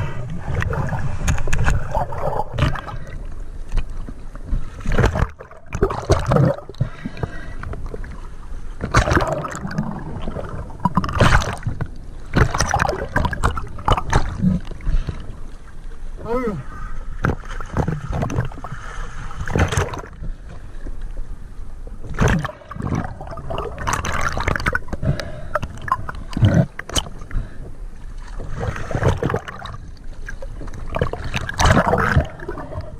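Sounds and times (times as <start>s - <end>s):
constant low rumble: 0.0s - 32.9s
water sloshing and gurgling: 0.0s - 32.9s.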